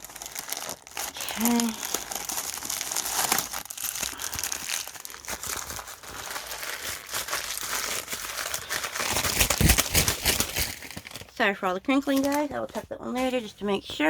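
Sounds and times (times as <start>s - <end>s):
packing material crinkling: 0.0s - 14.0s.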